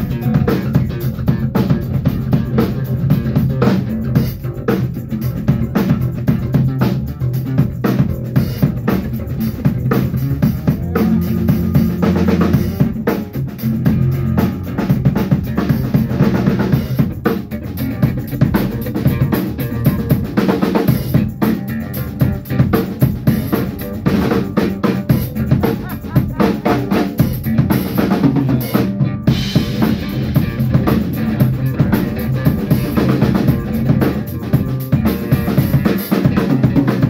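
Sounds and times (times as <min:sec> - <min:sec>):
band music: 0:00.0 - 0:37.0
drum kit beat: 0:00.0 - 0:37.0.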